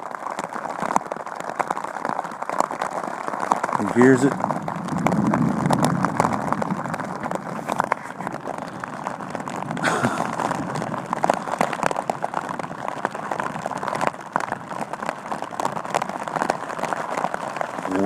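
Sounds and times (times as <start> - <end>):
heavy rain drumming on fabric cover: 0.0 - 18.0.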